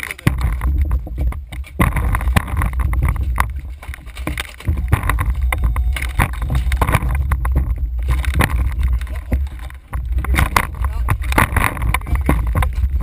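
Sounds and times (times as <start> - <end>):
knocks and clatter on deck: 0.0 - 13.0
wind rumbling on microphone: 0.0 - 13.0.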